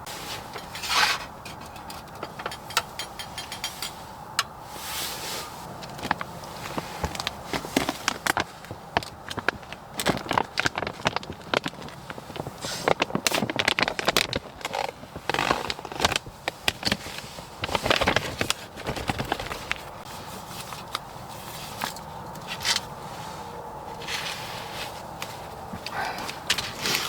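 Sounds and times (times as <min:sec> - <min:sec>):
objects being handled: 0:00.0 - 0:22.9
faint steady hum: 0:00.0 - 0:27.0.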